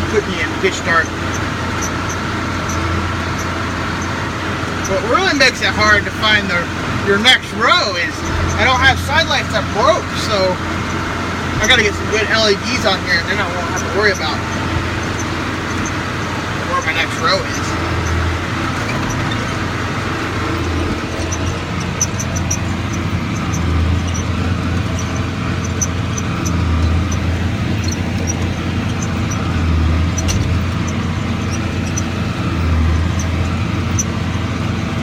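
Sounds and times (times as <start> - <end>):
tractor diesel engine droning: 0.0 - 35.0.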